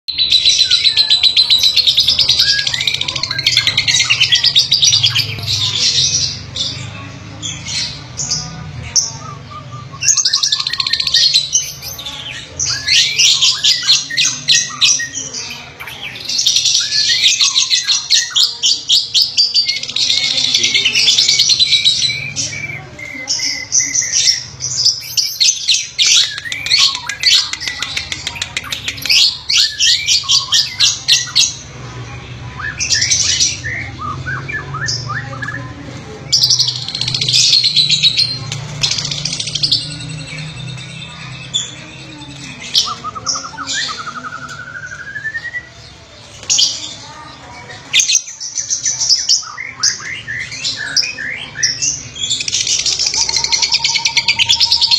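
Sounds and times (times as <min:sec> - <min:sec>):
lovebirds chattering: 0:00.1 - 0:54.9.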